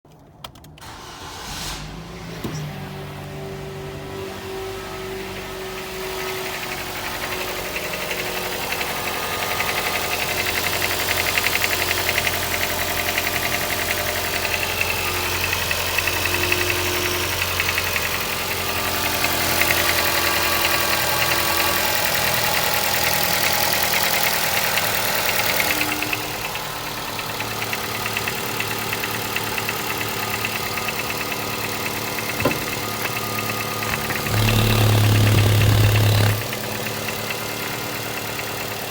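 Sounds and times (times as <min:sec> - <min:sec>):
car engine idling: 0:04.5 - 0:38.9.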